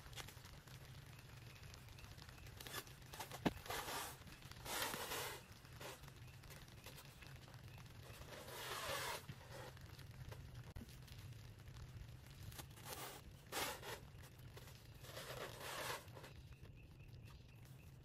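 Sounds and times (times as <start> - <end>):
plastic stretch wrap crackling: 0.0 - 16.8.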